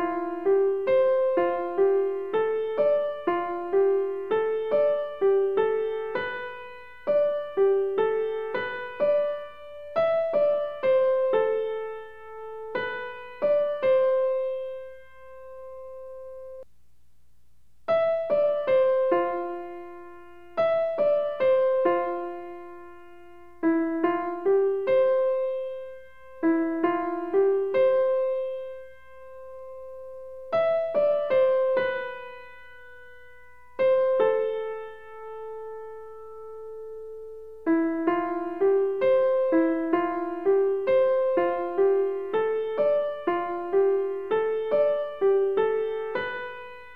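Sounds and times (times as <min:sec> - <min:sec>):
slow piano melody: 0:00.0 - 0:16.7, 0:17.9 - 0:46.9.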